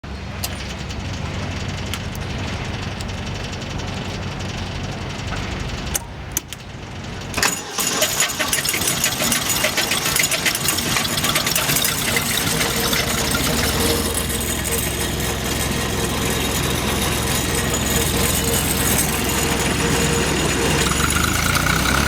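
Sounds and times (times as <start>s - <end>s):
engine idling: 0.0s - 22.0s
wood chipper crackling clatter: 0.0s - 22.0s.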